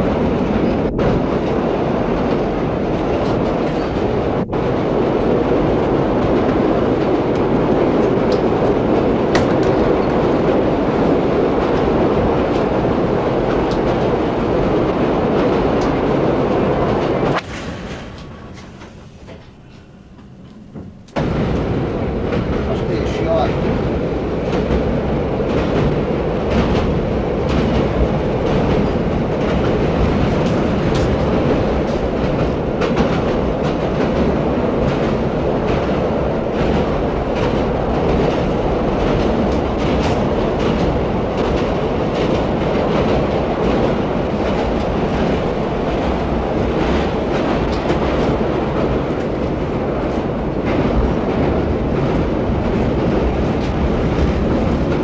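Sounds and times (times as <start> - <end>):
subway train rumble: 0.0 - 55.0
wheels clacking over rail joints: 5.0 - 55.0.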